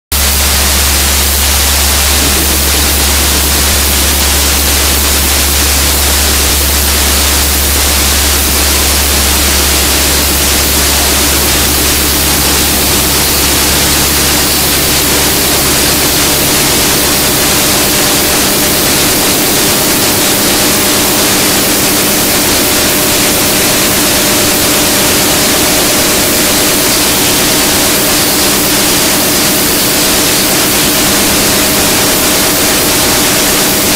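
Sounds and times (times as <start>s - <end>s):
low hum: 0.1s - 33.9s
steady high tone: 0.2s - 33.6s.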